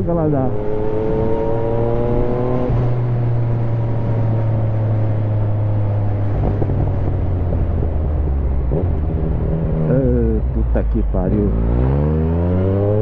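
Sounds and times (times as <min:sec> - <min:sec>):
motorcycle engine on the overrun: 0:00.0 - 0:13.0
wind rumble on microphone: 0:00.0 - 0:13.0.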